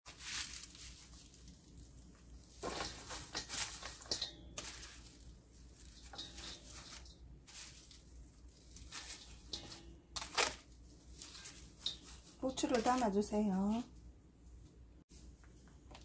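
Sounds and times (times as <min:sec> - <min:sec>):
herbs rustling in hands: 0:00.1 - 0:15.4.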